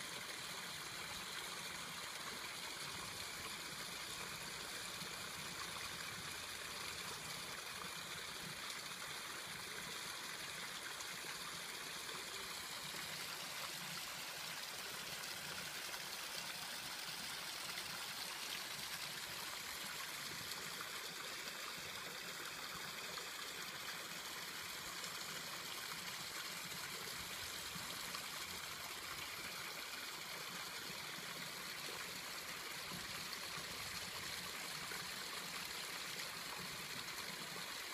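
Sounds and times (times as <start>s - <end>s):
water trickling into pond: 0.0s - 37.9s.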